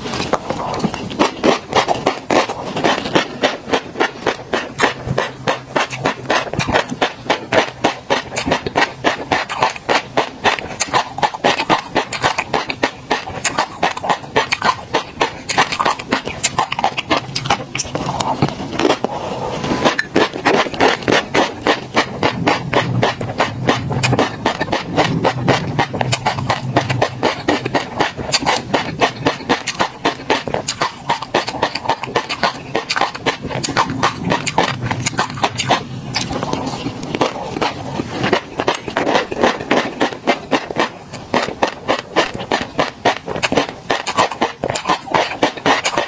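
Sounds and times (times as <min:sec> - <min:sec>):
chewing with popping clicks: 0:00.2 - 0:19.1, 0:19.8 - 0:46.0.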